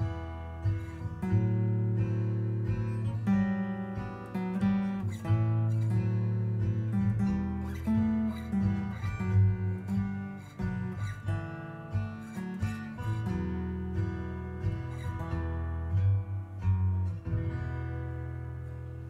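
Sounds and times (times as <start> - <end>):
acoustic guitar plucked: 0.0 - 19.0.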